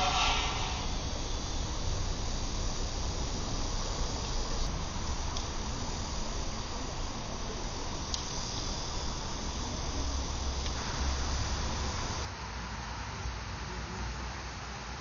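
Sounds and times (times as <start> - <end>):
crickets chirping: 0.0 - 12.3.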